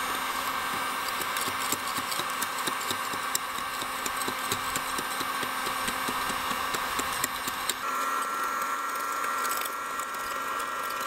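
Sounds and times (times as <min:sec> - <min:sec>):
heat gun whirring hum: 0:00.0 - 0:11.0.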